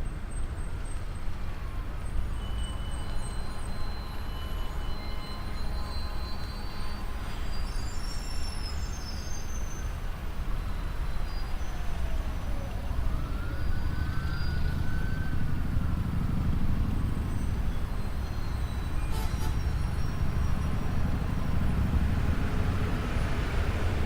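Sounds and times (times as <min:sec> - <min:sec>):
road traffic rumble: 0:00.0 - 0:24.0
faint wailing tones: 0:01.6 - 0:24.0.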